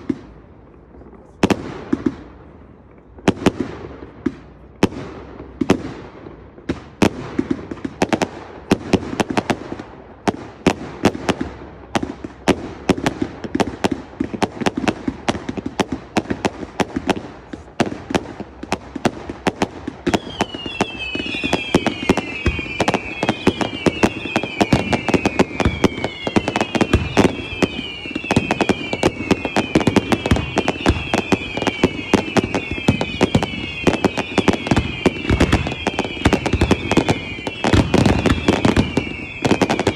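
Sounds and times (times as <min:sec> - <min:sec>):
fireworks bangs and crackles: 0:00.0 - 0:39.9
whistling fireworks: 0:00.0 - 0:39.9.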